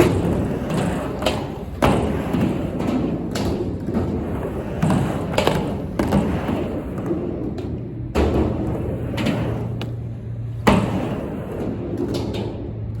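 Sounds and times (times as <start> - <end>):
skateboard knocks: 0.0 - 12.5
skateboard wheels rumbling: 0.0 - 13.0.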